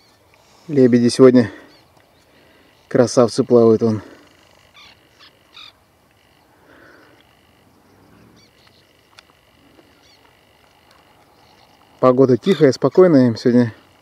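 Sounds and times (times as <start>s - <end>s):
faint frog croaking: 1.6s - 14.0s.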